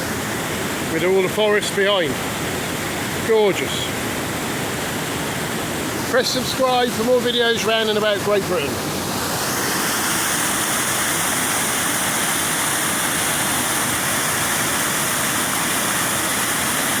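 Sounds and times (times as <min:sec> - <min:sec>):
waterfall pouring over rock: 0:00.0 - 0:17.0.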